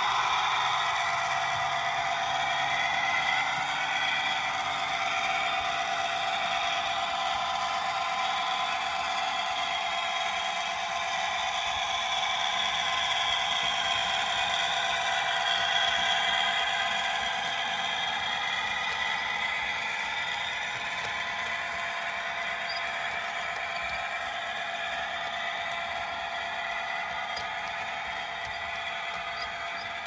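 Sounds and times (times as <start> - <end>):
model train wheels rattling on track: 0.0 - 30.0.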